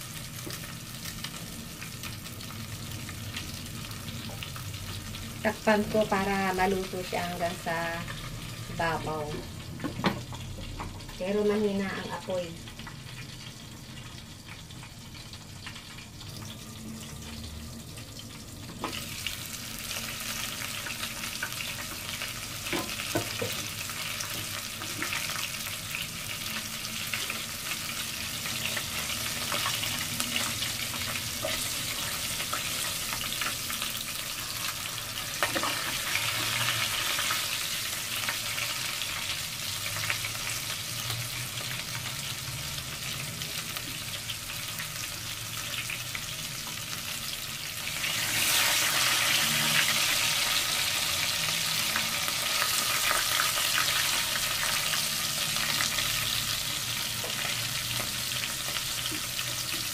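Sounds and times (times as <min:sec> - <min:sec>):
chicken deep-frying in oil: 0:00.0 - 0:59.9.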